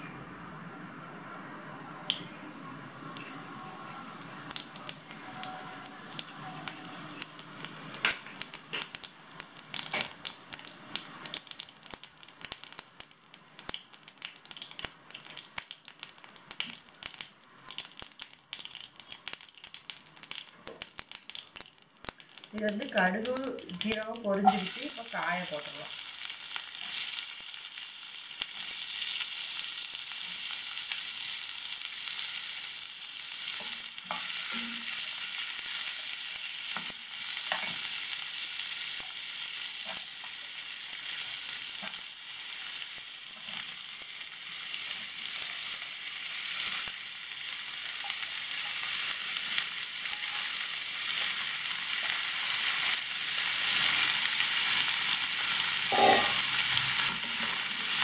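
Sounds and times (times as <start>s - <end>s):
vegetables sizzling in hot oil: 1.2s - 58.0s.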